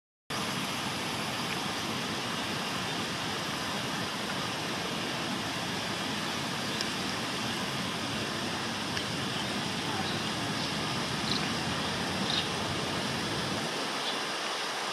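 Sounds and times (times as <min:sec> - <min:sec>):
steady rushing background noise: 0:00.3 - 0:14.9.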